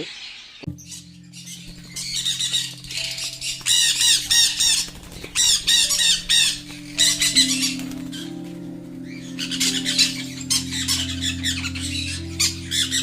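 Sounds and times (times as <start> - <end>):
parrots squawking: 0.0 - 8.4, 9.0 - 13.0.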